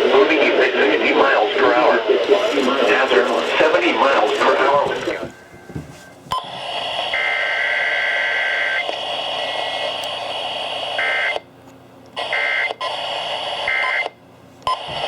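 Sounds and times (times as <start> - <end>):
radio static: 0.0 - 11.4, 12.2 - 15.0.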